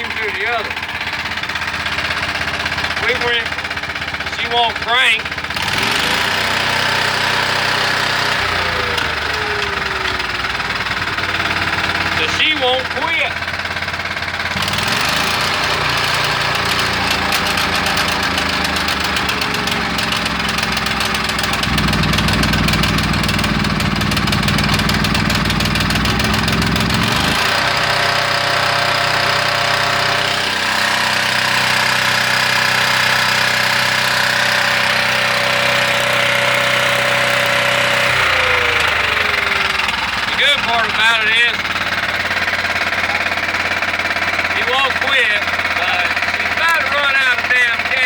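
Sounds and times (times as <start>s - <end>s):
generator engine running: 0.0s - 48.0s.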